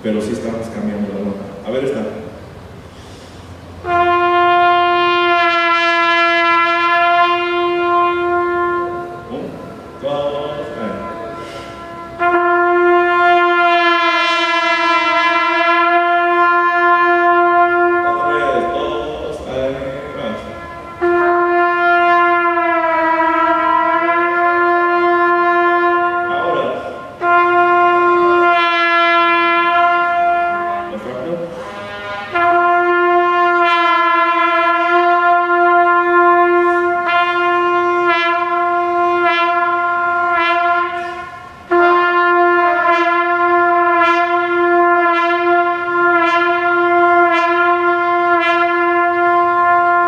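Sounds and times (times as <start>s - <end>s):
trumpet long held notes: 3.0s - 50.0s.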